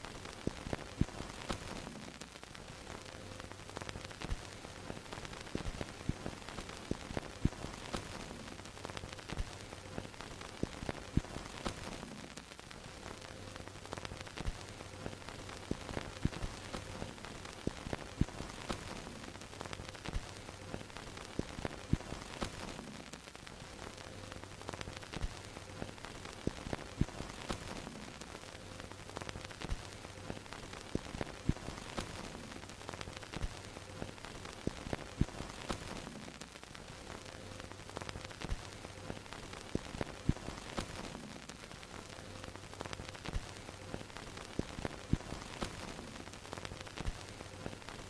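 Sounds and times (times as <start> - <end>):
crackling clicks and pops: 0.0 - 48.0
steady hiss: 0.0 - 48.0.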